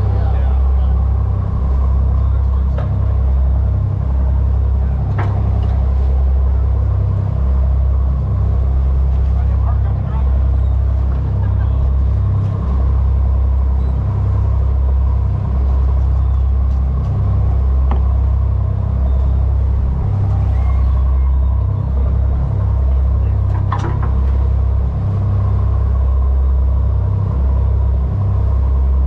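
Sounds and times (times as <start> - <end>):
boat engine drone: 0.0 - 29.0.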